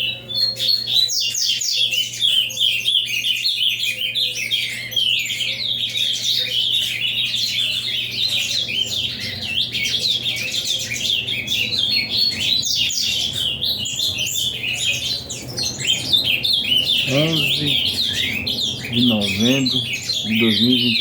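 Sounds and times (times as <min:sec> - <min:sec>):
bird singing chirping notes: 0:00.0 - 0:21.0.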